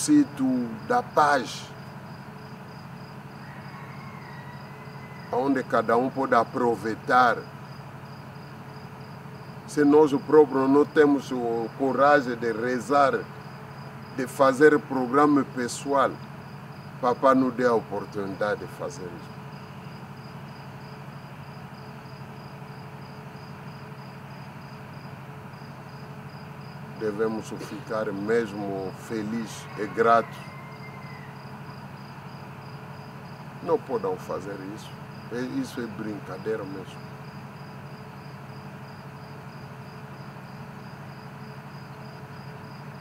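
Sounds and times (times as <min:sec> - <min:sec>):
cricket chirping: 0:00.0 - 0:43.0
steady low hum: 0:00.0 - 0:43.0.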